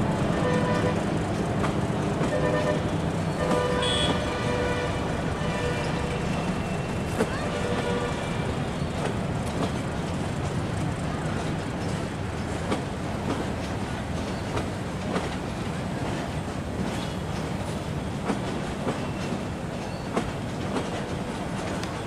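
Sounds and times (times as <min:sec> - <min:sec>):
train coaches rumbling slowly: 0:00.0 - 0:22.0
wheels clacking over rail joints: 0:00.0 - 0:22.0.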